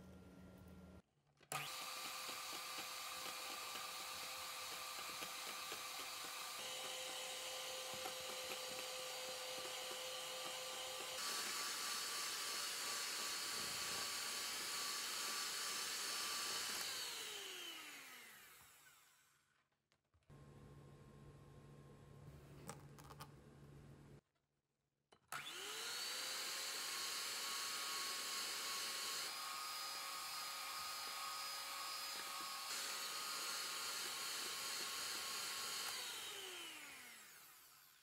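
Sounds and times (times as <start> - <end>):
milk frother motor whine: 1.5 - 19.5, 25.3 - 38.0.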